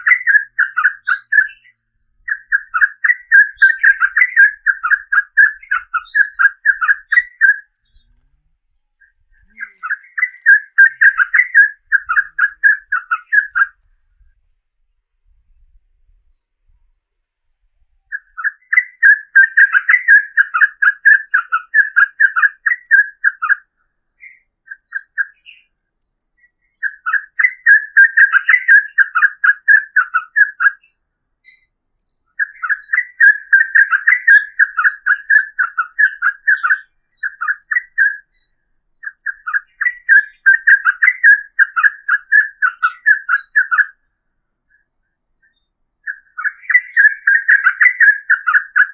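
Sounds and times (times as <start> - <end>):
bird singing rolling phrases: 0.0 - 48.9.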